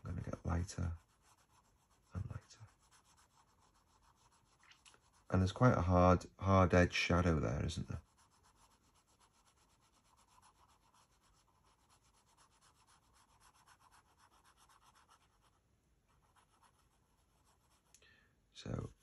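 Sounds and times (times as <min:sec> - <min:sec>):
pencil scratching on paper: 0:00.0 - 0:06.0, 0:07.0 - 0:17.9.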